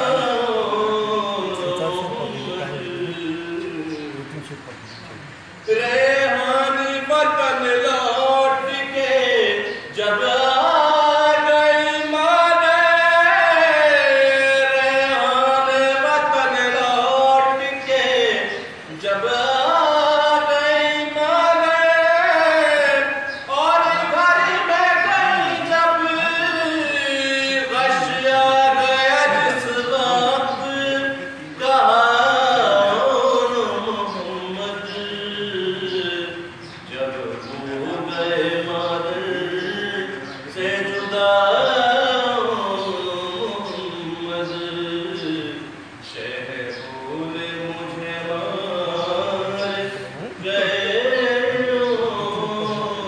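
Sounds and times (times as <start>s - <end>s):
man chanting a lament: 0.0s - 4.6s, 5.6s - 53.0s.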